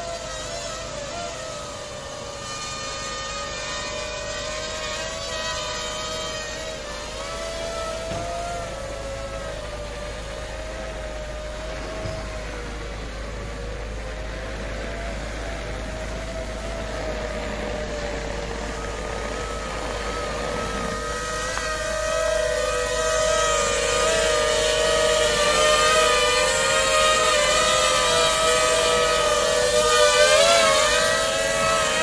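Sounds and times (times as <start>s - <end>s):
quadcopter propellers whining: 0.0s - 32.0s.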